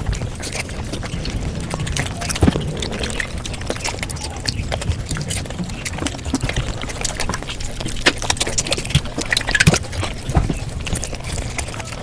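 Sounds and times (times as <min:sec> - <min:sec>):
fast chewing and mouth clicks: 0:00.0 - 0:12.0.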